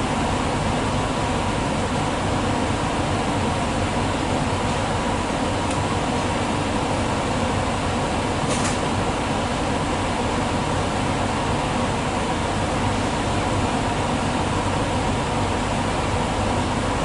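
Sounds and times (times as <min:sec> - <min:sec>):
train cabin rumble and hum: 0:00.0 - 0:17.0.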